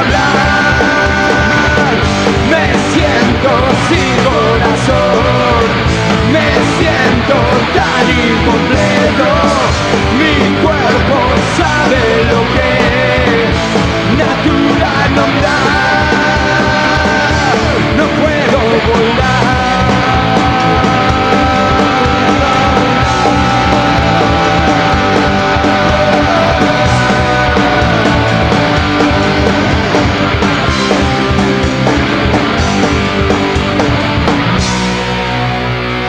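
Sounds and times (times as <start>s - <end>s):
punk rock band playing: 0.0s - 36.0s.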